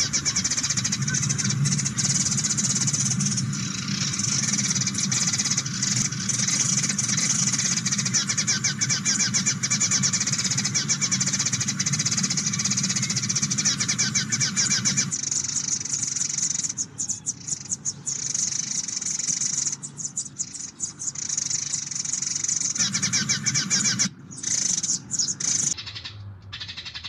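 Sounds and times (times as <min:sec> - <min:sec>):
steady low hum: 0:00.0 - 0:25.8
small birds chirping: 0:00.0 - 0:27.0.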